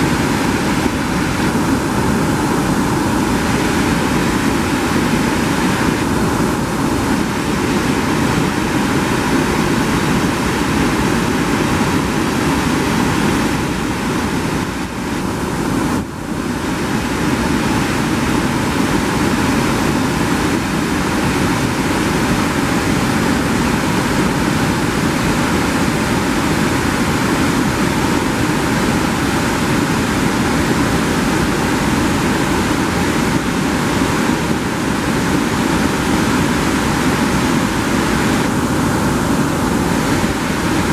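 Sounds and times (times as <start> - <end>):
waterfall and rapids rushing: 0.0 - 40.9.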